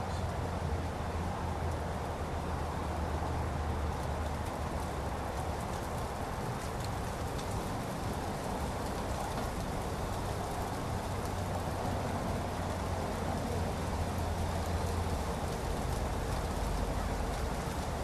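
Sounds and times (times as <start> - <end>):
light rain on foliage: 0.0 - 18.0.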